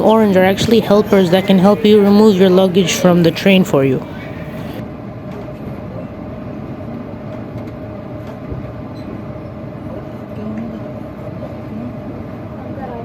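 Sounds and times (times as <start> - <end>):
train engines humming: 0.0 - 12.9.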